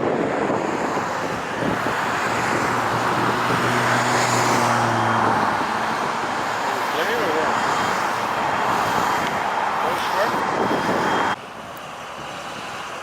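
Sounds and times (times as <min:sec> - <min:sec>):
steady traffic noise: 0:00.0 - 0:13.0
vehicle passing: 0:00.4 - 0:11.4.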